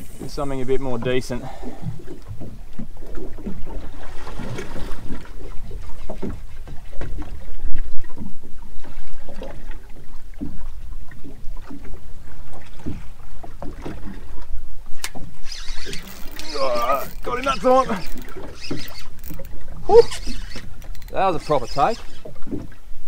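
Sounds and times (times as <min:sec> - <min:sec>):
water slapping against boat hull: 0:00.0 - 0:23.0.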